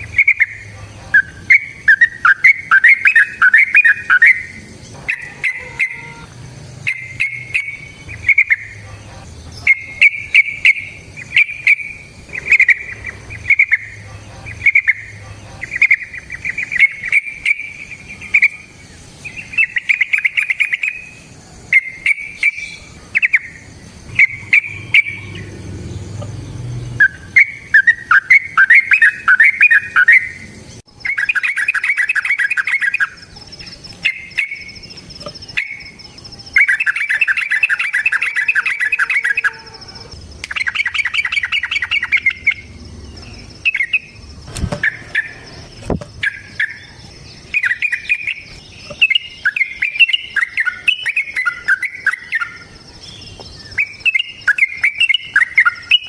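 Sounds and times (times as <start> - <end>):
bulbul singing warbled phrases: 0.0 - 56.0.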